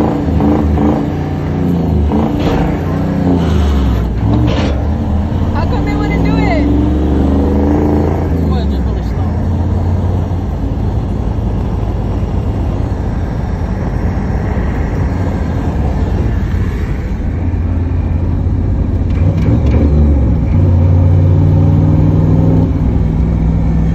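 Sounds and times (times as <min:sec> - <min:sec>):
pickup truck engine running: 0:00.0 - 0:23.9.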